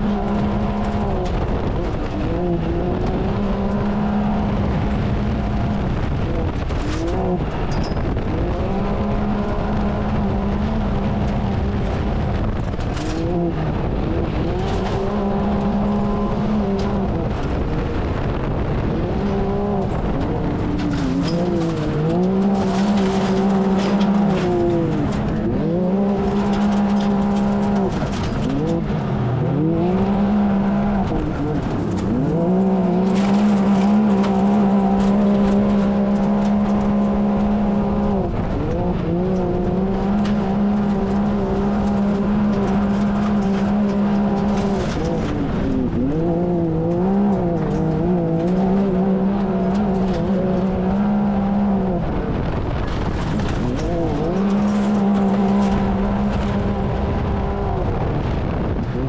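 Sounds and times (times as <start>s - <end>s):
engine at racing speed: 0.0s - 59.0s
tyres on dirt: 0.0s - 59.0s.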